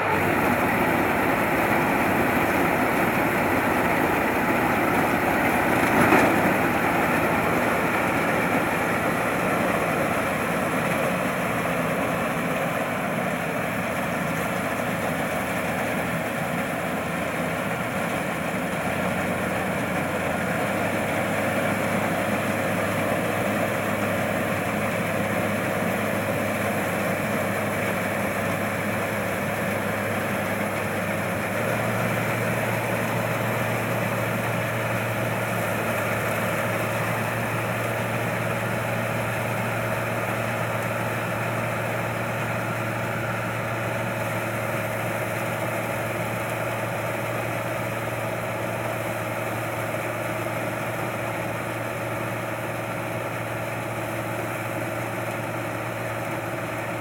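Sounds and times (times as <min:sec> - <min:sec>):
harvester engine humming: 0:00.0 - 0:57.0.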